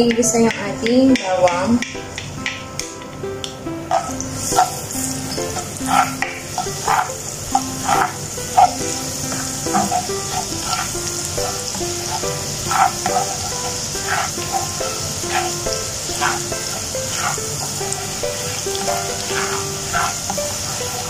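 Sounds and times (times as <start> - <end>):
background music melody: 0.0 - 21.0
garlic sizzling in oil: 0.0 - 21.0.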